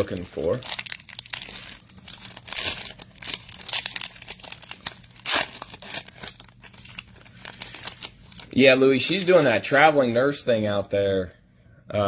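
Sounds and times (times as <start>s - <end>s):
foil pack tearing and crinkling: 0.0s - 10.2s.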